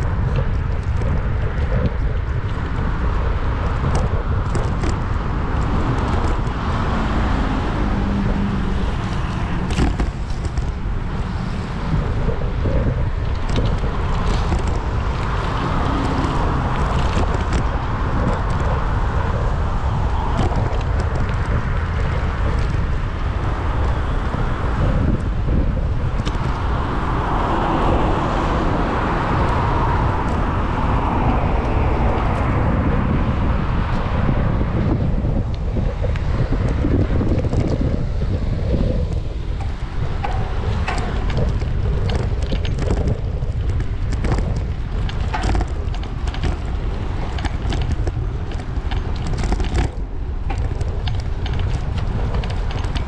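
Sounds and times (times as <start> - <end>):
road traffic passing: 0.0 - 53.0
wind on microphone: 0.0 - 53.0.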